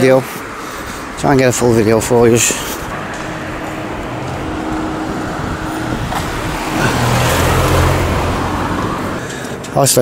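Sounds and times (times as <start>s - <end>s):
vehicle engine passing by: 0.6s - 10.0s.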